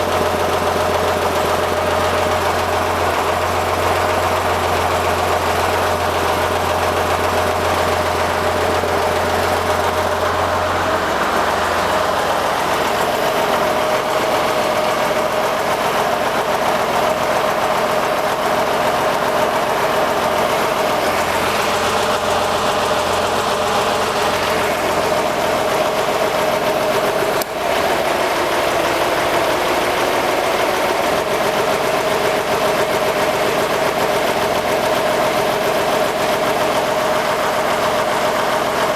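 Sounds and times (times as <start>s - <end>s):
flat-six engine running: 0.0s - 38.9s.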